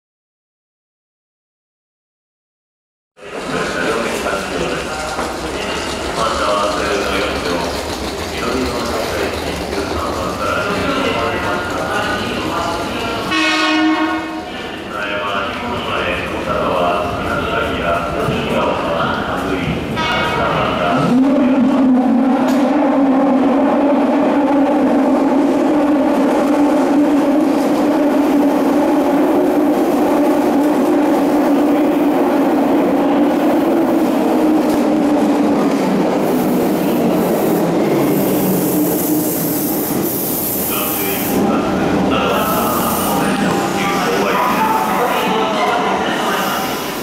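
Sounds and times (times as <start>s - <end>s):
rail noise: 3.2s - 47.0s.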